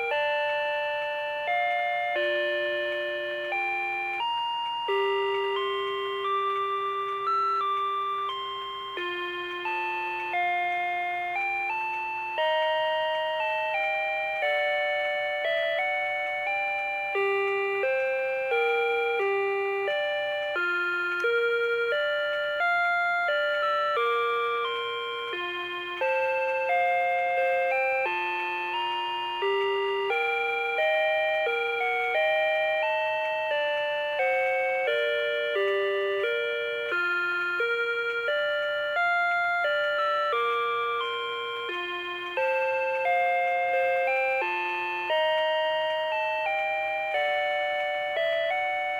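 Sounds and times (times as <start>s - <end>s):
alarm clock chime melody: 0.0s - 48.9s.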